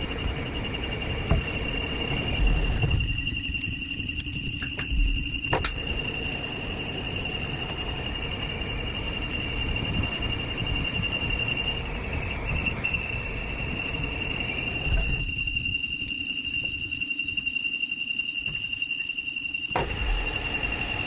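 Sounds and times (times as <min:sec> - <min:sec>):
machine high whine: 0:00.0 - 0:21.0.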